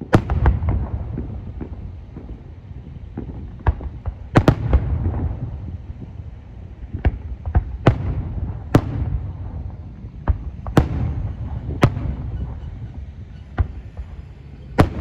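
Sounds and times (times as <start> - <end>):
fireworks bursting with booms: 0.0 - 15.0
low rolling rumble: 0.0 - 15.0.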